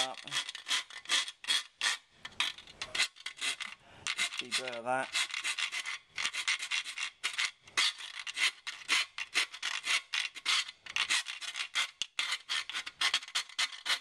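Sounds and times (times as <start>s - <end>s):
file rasping in metal hole: 0.0s - 14.0s.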